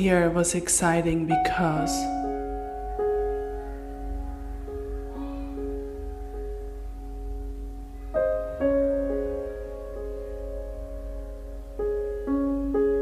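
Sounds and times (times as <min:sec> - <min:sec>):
soft slow piano music: 0:00.0 - 0:13.0.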